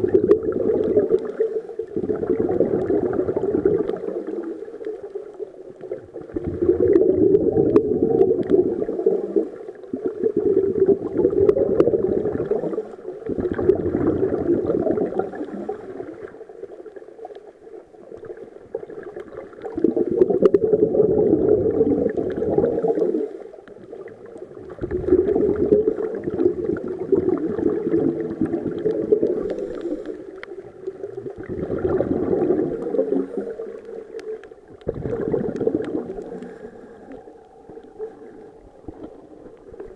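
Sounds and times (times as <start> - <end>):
underwater breath bubbles: 0.0 - 17.4, 18.0 - 39.9.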